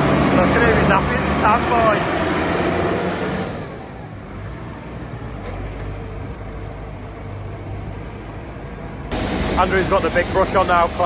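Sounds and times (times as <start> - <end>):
tractor diesel engine running: 0.0 - 8.0, 8.8 - 11.0.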